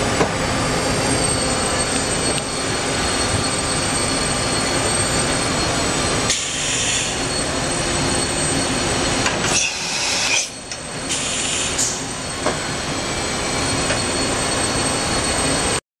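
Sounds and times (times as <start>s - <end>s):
machine running with high whine: 0.0s - 15.8s.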